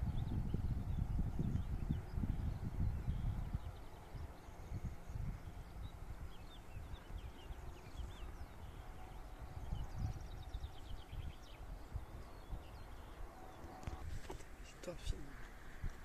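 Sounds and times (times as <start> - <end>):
small birds chirping: 0.0 - 16.0
wind rumbling on microphone: 0.0 - 16.0.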